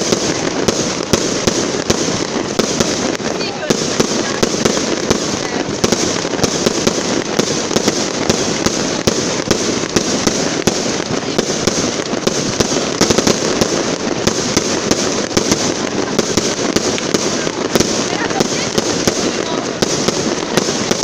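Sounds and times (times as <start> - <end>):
fireworks bursting with loud bangs: 0.0 - 21.0.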